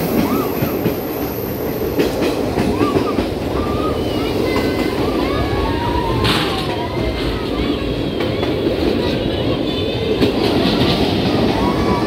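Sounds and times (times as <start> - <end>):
train coaches rumbling on track: 0.0 - 12.0.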